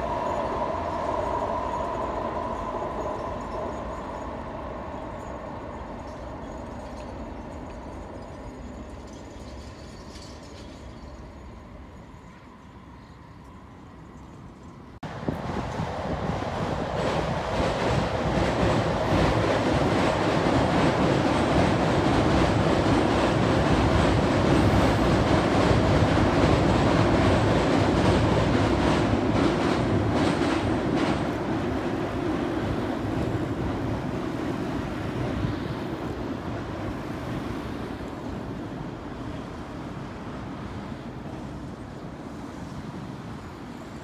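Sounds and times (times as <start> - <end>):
train wheels running on rails: 0.0 - 44.0.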